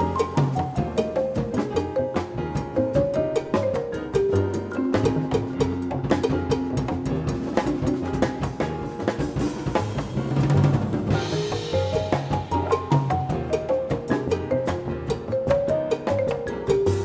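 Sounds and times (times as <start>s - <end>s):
busy drum kit: 0.0s - 17.0s
latin jazz band playing: 0.0s - 17.0s.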